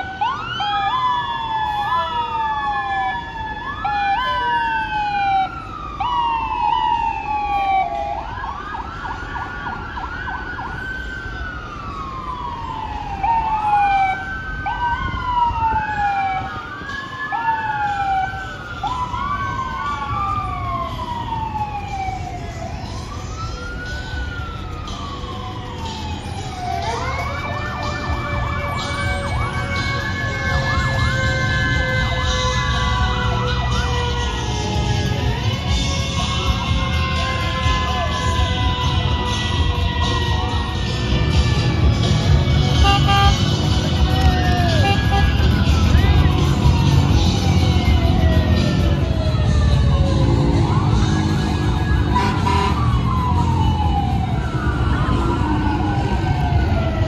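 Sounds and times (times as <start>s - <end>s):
fire engine sirens wailing: 0.0s - 57.0s.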